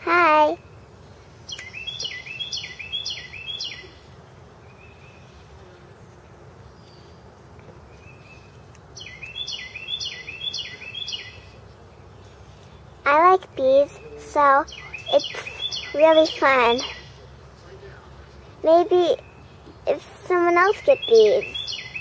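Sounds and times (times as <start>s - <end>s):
songbird singing: 0.0s - 22.0s
steady low background hum: 0.0s - 22.0s.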